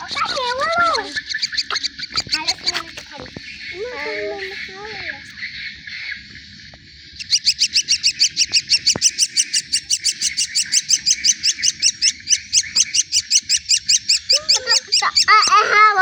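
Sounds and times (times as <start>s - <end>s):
young birds chirping: 0.0s - 16.0s.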